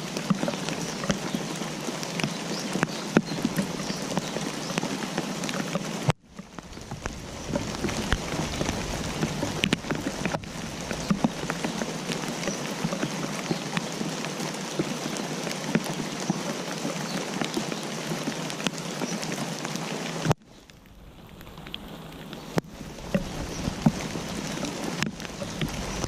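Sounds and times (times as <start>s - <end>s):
rain falling: 0.0s - 26.0s
raindrops ticking close by: 0.0s - 26.0s.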